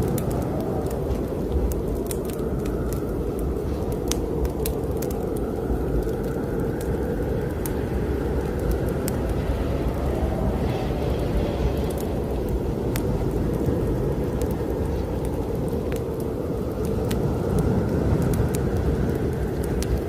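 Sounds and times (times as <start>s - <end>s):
wind blowing: 0.0s - 20.0s
wood fire crackling: 0.0s - 20.0s.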